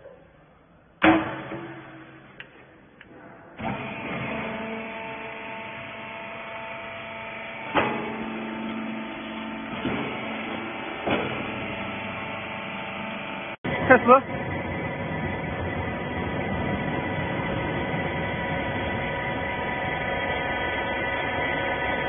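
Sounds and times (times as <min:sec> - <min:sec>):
baler motor humming: 0:03.6 - 0:22.0.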